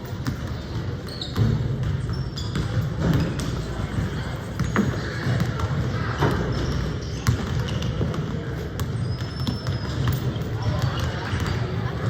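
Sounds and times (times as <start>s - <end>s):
basketball bouncing on court: 0.0s - 12.0s
echoing crowd murmur: 0.0s - 12.0s
sneaker squeaks: 0.0s - 12.0s.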